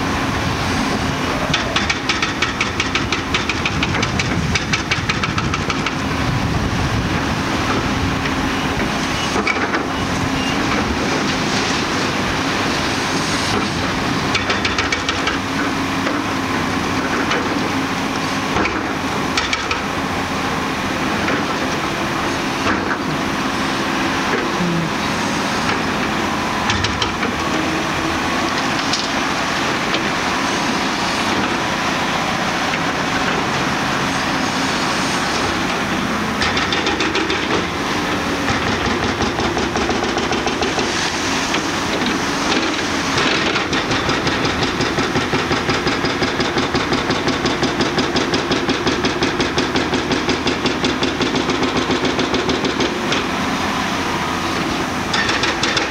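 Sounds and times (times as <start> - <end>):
excavator engine and hydraulics: 0.0 - 55.9.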